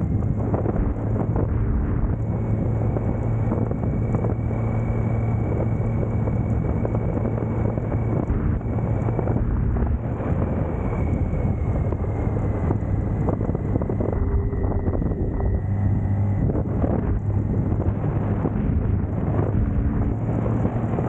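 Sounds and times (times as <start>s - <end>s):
motorcycle engine cruising: 0.0s - 21.0s
wind noise on microphone: 0.0s - 21.0s.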